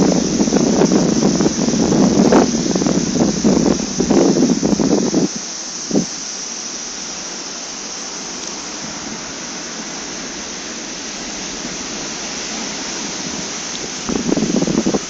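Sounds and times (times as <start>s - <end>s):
heavy surf rushing: 0.0s - 15.0s.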